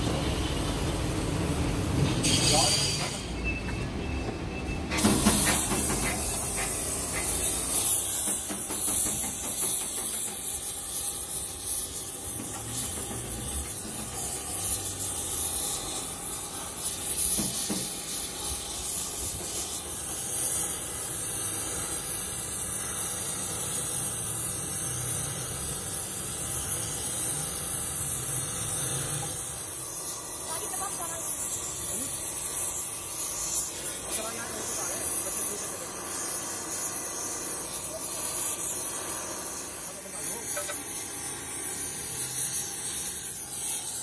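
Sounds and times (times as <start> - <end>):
welding torch flame hissing: 0.0 - 44.0.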